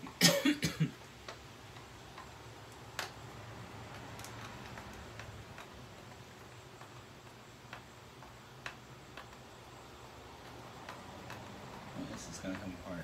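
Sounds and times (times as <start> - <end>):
faint clicks and light taps: 1.0 - 13.0.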